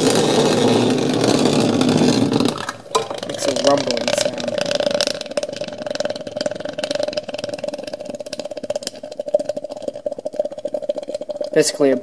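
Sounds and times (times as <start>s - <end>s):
steam bubbles popping in water: 0.0s - 12.0s.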